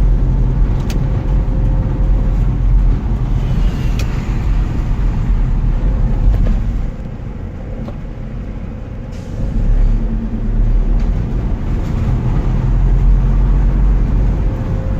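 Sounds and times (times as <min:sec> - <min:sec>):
traffic rumbling past: 0:00.0 - 0:14.9.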